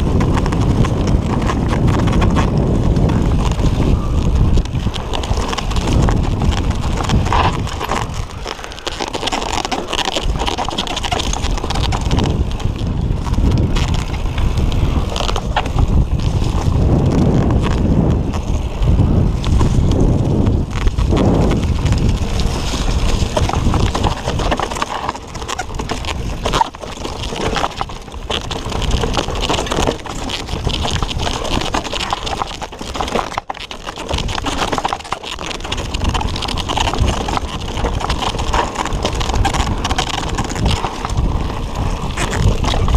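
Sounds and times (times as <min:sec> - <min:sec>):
bike knocking and rattling: 0:00.0 - 0:42.9
bike tyres rumbling on dirt: 0:00.0 - 0:42.9.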